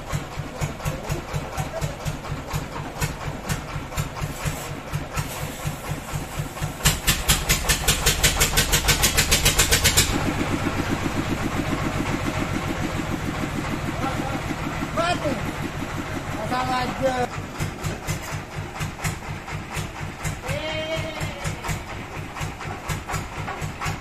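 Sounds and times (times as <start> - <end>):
sawmill engine running: 0.0 - 24.0.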